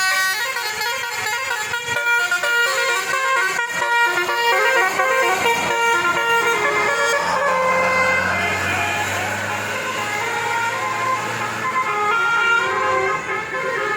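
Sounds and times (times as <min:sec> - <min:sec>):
musical bus horn tune: 0:00.0 - 0:13.9.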